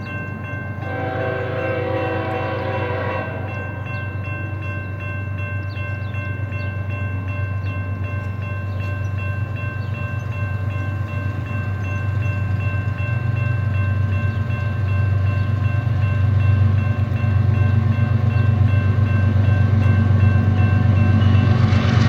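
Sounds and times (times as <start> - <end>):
ringing warning bell: 0.0 - 22.0
diesel locomotive rumble: 0.8 - 5.0, 7.6 - 22.0.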